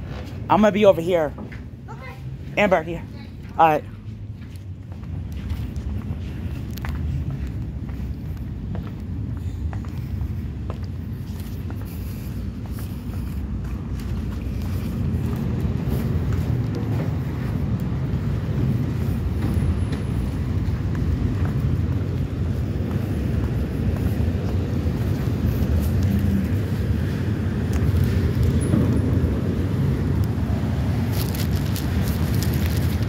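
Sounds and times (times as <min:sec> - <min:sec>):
ferry engine rumble: 0:00.0 - 0:33.0.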